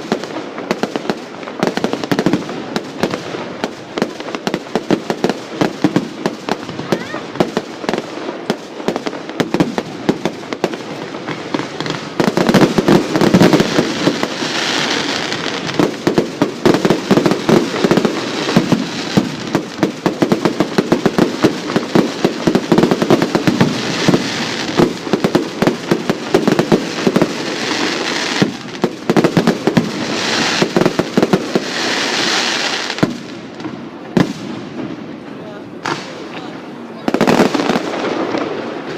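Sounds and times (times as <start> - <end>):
fireworks exploding: 0.0 - 38.9
high crackling hiss: 0.0 - 38.9.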